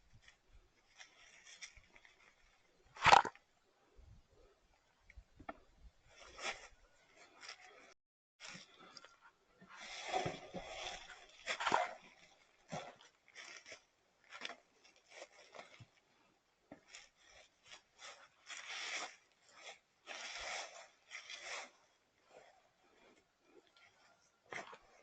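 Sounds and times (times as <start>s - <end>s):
faint rustling and scraping: 0.0s - 3.2s, 4.0s - 25.0s.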